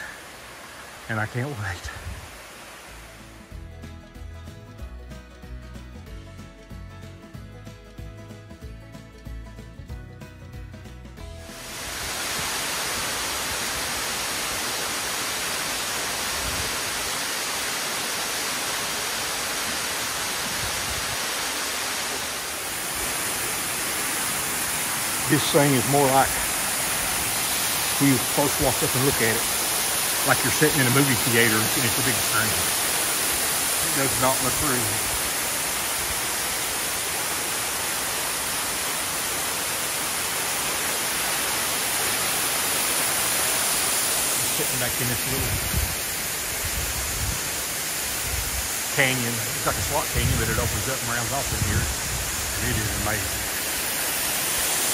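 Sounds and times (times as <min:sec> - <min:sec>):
waterfall rushing: 0:00.0 - 0:03.5, 0:11.4 - 0:54.9.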